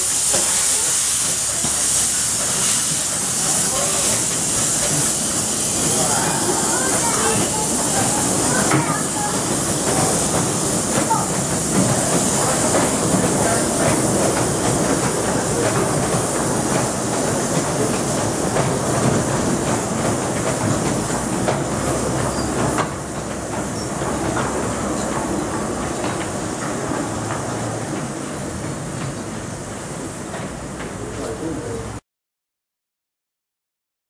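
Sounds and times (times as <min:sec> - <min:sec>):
steam locomotive hissing: 0:00.0 - 0:32.0
train wheels clickety-clack: 0:00.0 - 0:32.0.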